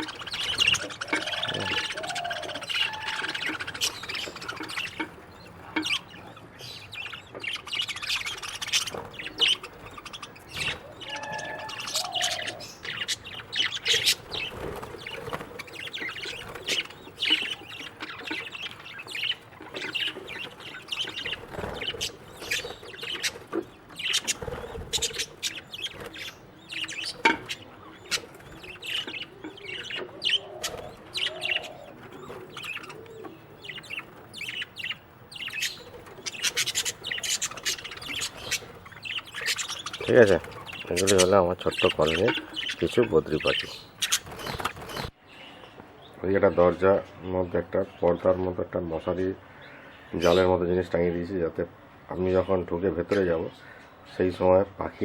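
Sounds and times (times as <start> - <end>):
budgerigars chirping: 0.0 - 45.6, 46.3 - 55.0.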